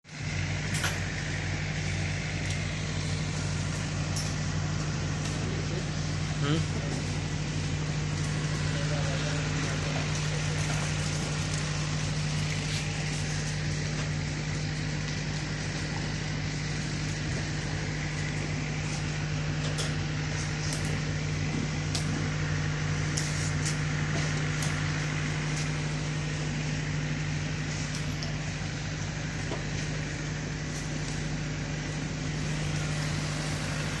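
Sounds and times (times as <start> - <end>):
low machine hum: 0.1 - 34.0.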